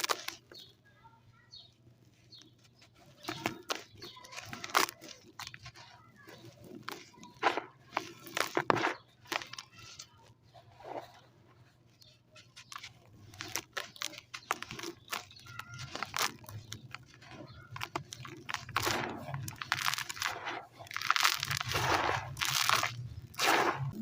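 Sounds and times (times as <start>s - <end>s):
dry sand crunching: 0.0s - 24.0s.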